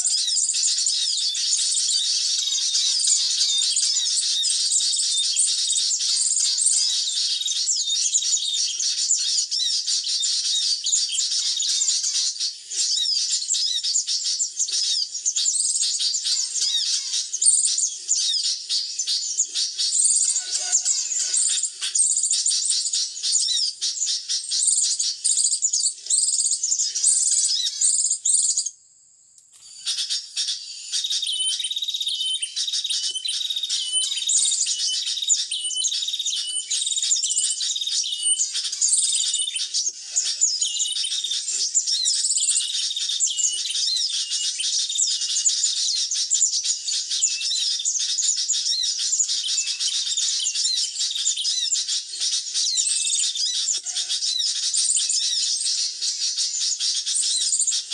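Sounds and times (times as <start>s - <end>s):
sunbirds chirping: 0.0s - 57.9s.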